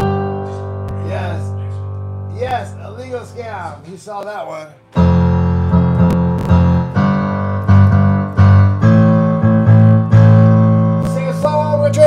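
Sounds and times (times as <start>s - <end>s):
digital piano chords: 0.0s - 12.0s.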